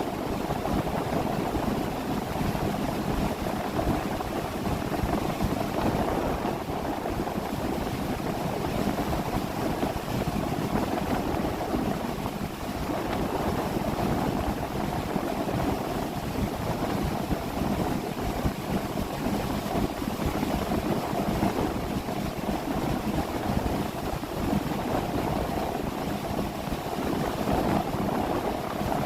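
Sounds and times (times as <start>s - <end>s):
motorboat engine drone: 0.0s - 29.0s
water rushing along hull: 0.0s - 29.0s
wind buffeting microphone: 0.0s - 29.0s.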